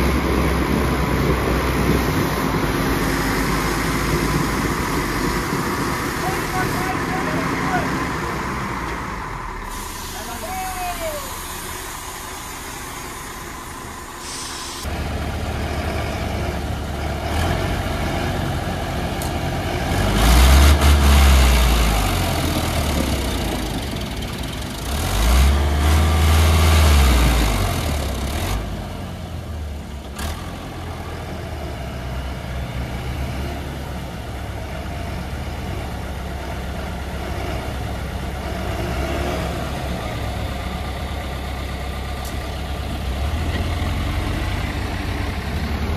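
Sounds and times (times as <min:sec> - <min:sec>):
heavy diesel engines surging: 0:00.0 - 0:45.9.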